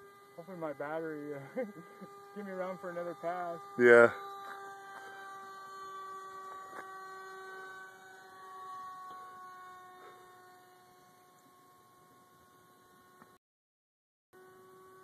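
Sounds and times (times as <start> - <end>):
electric ducted fan whining: 0.0 - 13.4, 14.4 - 15.0.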